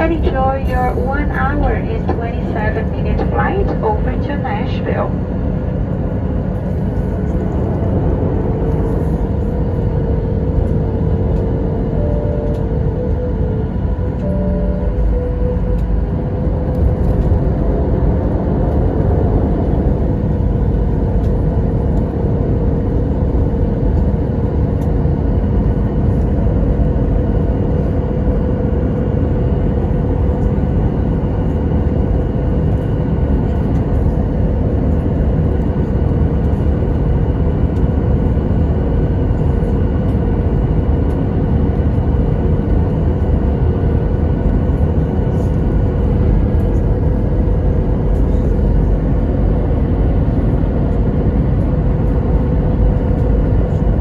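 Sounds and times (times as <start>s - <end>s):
jet engines rumbling and whining: 0.0s - 54.0s.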